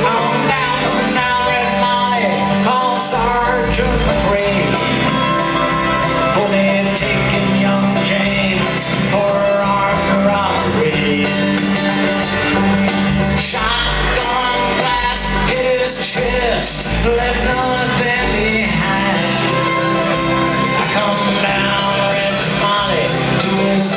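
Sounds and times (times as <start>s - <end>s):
acoustic guitar: 0.0s - 23.9s
banjo: 0.0s - 23.9s
fiddle: 0.0s - 23.9s
mandolin: 0.0s - 23.9s
upright bass: 0.0s - 23.9s.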